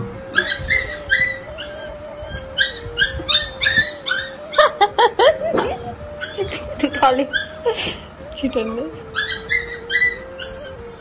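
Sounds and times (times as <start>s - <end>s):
dog whimpering and squeaking: 0.0s - 11.0s
steady hum: 0.0s - 11.0s
dog yipping: 0.3s - 11.0s.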